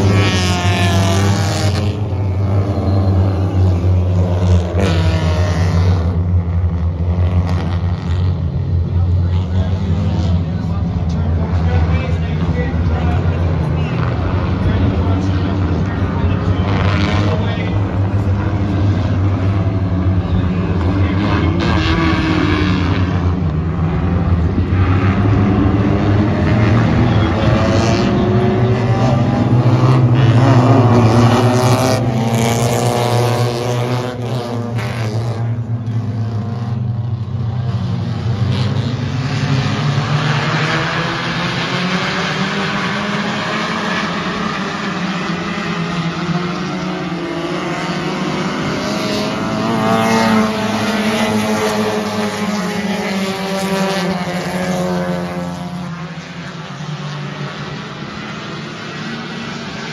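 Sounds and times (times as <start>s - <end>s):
stock car engines racing: 0.0s - 59.9s.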